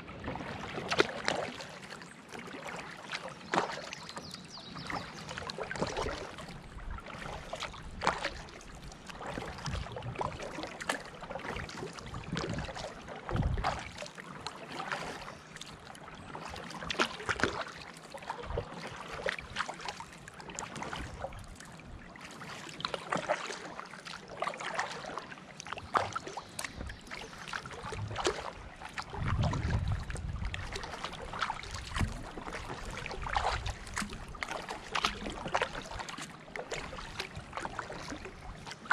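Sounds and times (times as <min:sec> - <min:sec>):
paddle splashing in water: 0:00.0 - 0:38.9.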